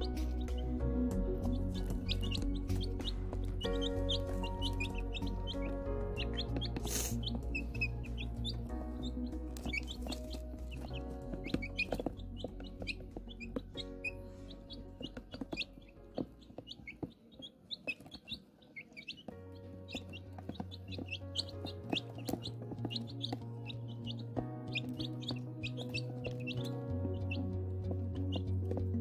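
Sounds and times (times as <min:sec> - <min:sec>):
background music with bass line: 0:00.0 - 0:15.8, 0:20.8 - 0:29.0
chicks peeping: 0:00.0 - 0:29.0.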